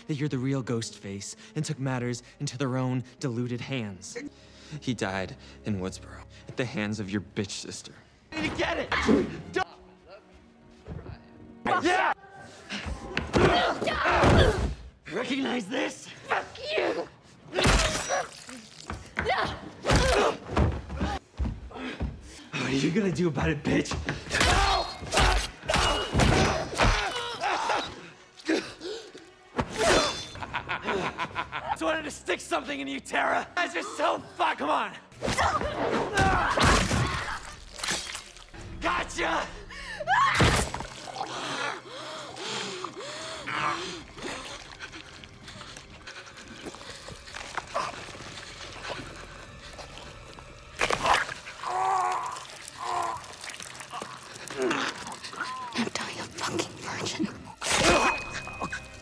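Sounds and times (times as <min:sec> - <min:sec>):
people grunting and groaning: 0:08.4 - 0:10.3, 0:10.9 - 0:32.0, 0:33.1 - 0:37.9, 0:38.6 - 0:59.0.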